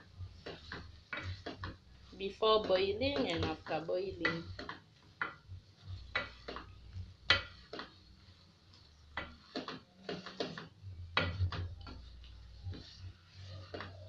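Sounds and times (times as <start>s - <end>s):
wooden spoon scraping metal pot: 0.0s - 14.0s.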